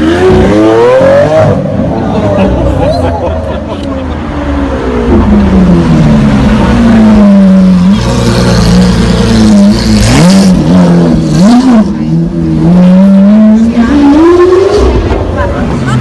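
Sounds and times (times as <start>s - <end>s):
loud car engine revving: 0.0s - 16.0s.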